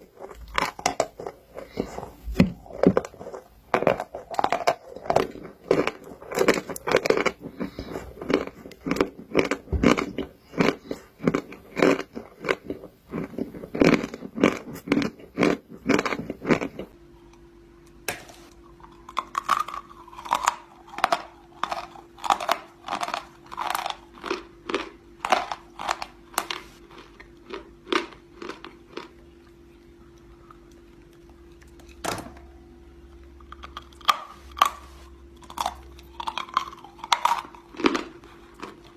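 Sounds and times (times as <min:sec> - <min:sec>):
chewing and crunching chalk: 0:00.0 - 0:17.0, 0:18.6 - 0:32.0, 0:33.1 - 0:38.9
faint steady hum: 0:00.0 - 0:38.9.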